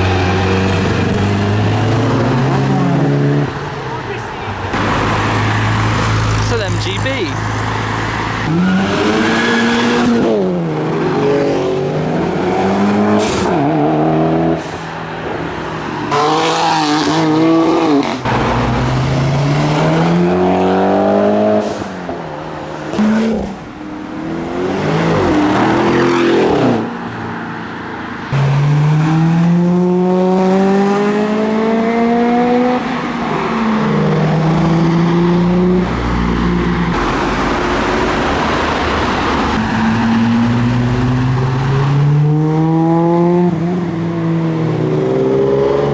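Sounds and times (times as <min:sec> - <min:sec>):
cars accelerating hard: 0:00.0 - 0:45.9.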